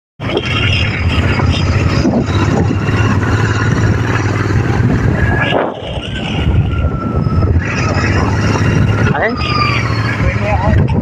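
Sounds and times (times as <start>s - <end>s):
motorcycle engine running: 0.2s - 11.0s
wind on microphone: 0.2s - 11.0s.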